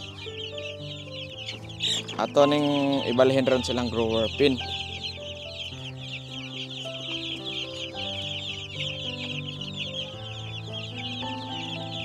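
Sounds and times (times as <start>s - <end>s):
chicks peeping: 0.0s - 12.0s
soft background music: 0.0s - 12.0s.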